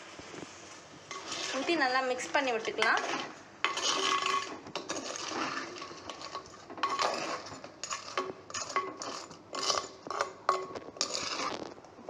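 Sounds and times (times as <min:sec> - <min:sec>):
metal spoon scraping clay pot: 0:01.1 - 0:11.8.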